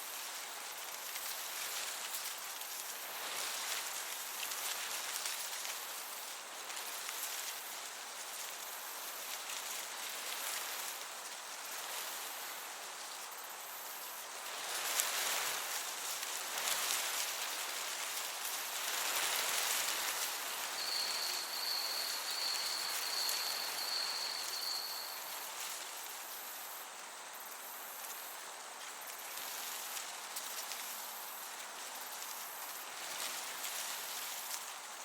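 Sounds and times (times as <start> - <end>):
breeze hiss: 0.0 - 35.0
cricket chirping: 2.8 - 35.0.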